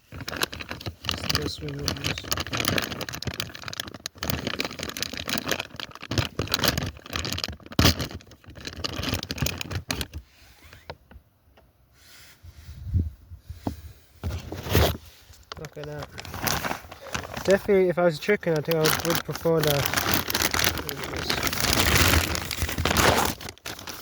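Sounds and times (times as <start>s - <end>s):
feed sack rustling and crinkling: 0.0s - 11.0s, 14.2s - 24.0s.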